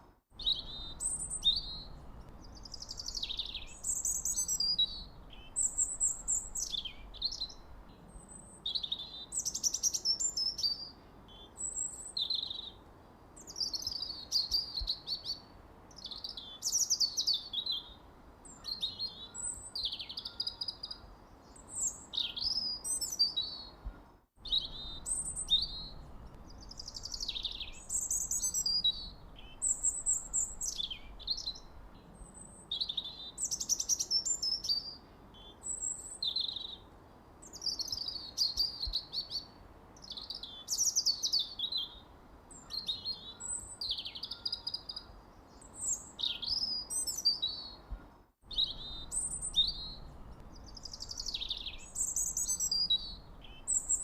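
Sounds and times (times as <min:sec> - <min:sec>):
faint steady hiss: 0:00.0 - 0:54.0
songbirds chirping and trilling: 0:00.4 - 0:54.0.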